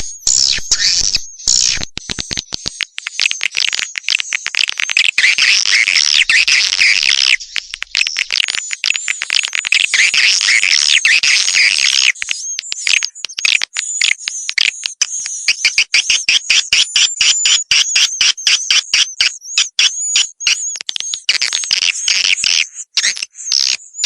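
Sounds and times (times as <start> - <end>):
swiftlet chirps and clicks: 0.0 - 22.3.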